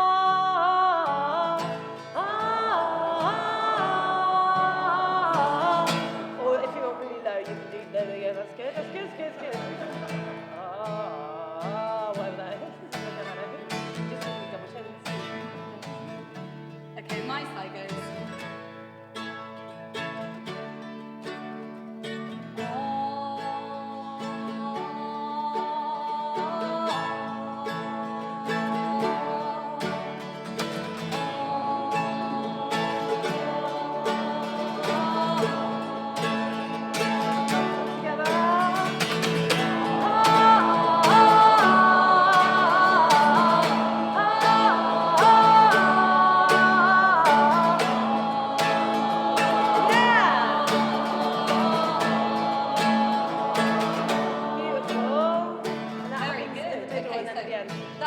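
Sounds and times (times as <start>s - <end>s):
voices singing wordlessly: 0.0s - 18.4s, 22.0s - 58.0s
acoustic guitar strumming: 0.0s - 58.0s.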